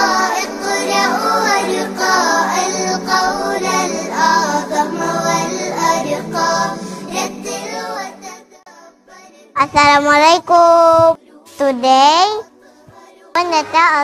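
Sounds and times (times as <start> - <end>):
child singing: 0.0 - 14.0
children's song music: 0.0 - 14.0.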